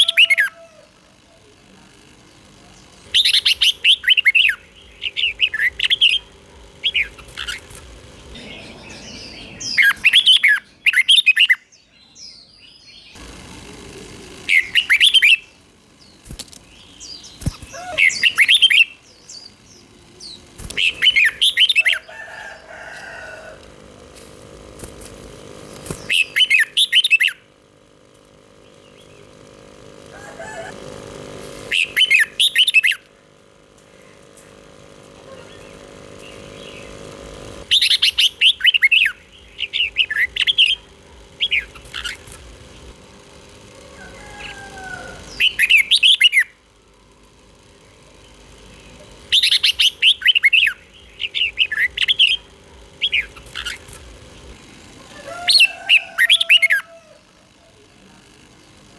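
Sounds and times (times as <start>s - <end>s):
bulbul singing: 0.0s - 1.0s, 2.2s - 58.9s.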